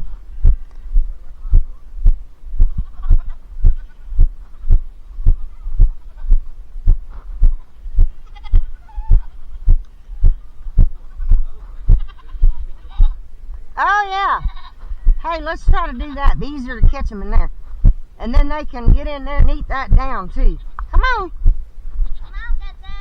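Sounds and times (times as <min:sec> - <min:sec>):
heavy footsteps thumping: 0:00.4 - 0:13.1, 0:14.4 - 0:20.2
farm animal bleating: 0:02.6 - 0:13.2, 0:13.8 - 0:17.5, 0:18.2 - 0:21.3, 0:21.9 - 0:23.0.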